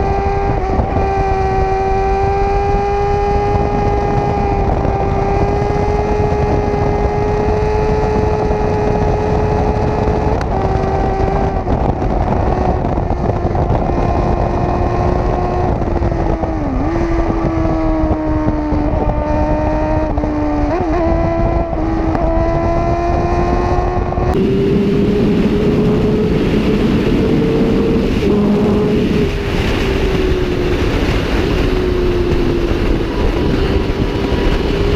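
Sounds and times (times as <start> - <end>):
motorcycle engine at high revs: 0.0 - 34.9
wind rushing over microphone: 0.0 - 34.9.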